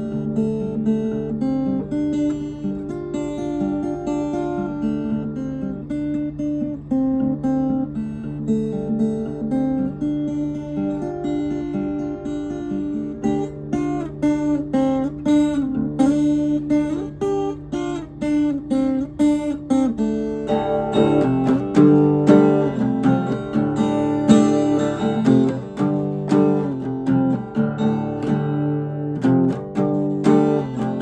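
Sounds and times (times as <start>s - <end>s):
acoustic guitar plucking: 0.0s - 31.0s.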